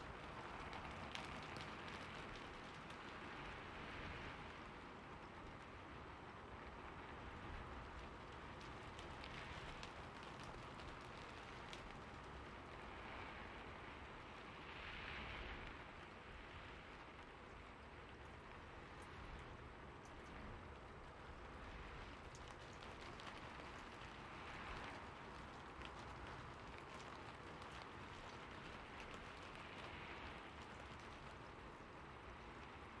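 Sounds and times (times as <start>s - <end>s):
raindrops ticking: 0.0s - 13.2s, 15.7s - 33.0s
steady rain hiss: 0.0s - 33.0s.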